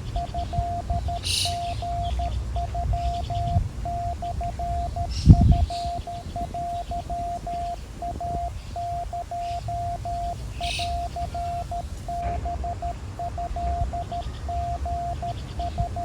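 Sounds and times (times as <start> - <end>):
bird chirps: 0.0 - 16.0
low rumble: 0.0 - 16.0
morse code beeping: 0.0 - 16.0.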